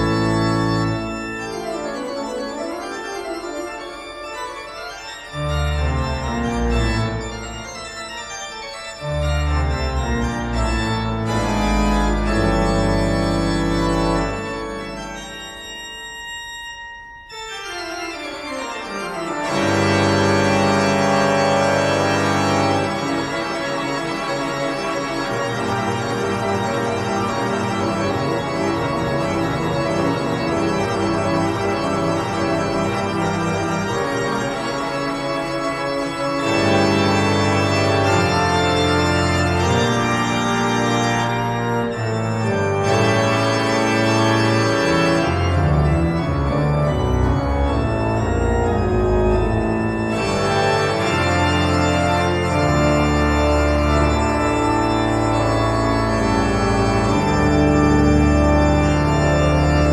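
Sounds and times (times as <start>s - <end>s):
organ sustained chords: 0.0s - 59.9s.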